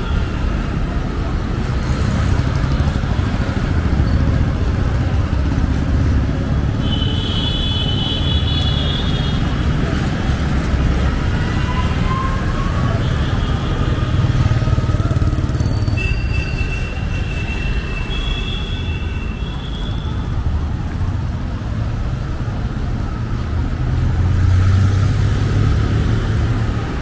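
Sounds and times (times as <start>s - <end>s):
passing vehicle engines rumbling: 0.0s - 27.0s.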